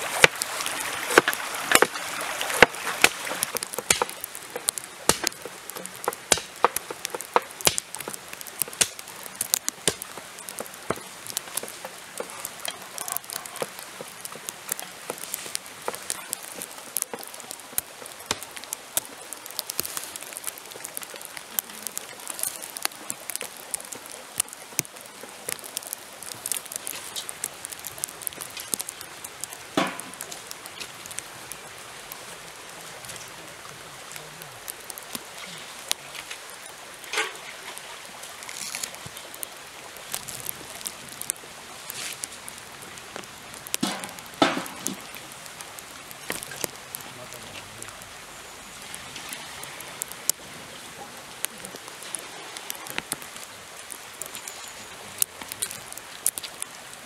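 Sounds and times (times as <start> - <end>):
light rain pattering on leaves: 0.0 - 57.0.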